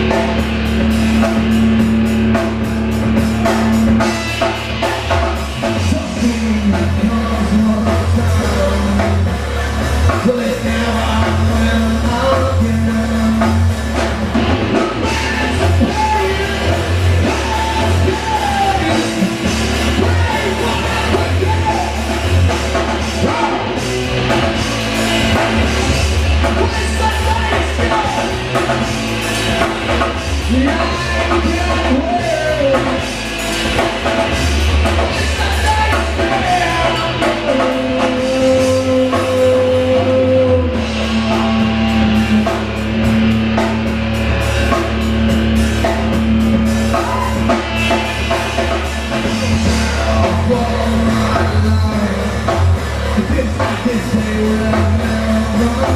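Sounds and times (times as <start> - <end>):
rock band playing live: 0.0 - 55.9
sung vocal line: 2.3 - 33.2, 34.4 - 45.1, 46.8 - 55.9.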